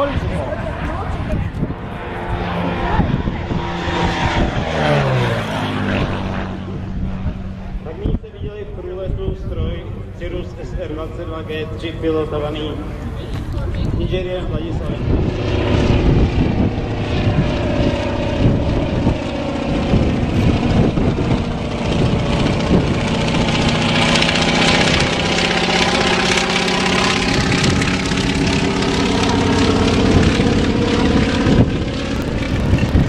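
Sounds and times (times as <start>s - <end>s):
propeller plane engine droning: 0.0s - 33.0s.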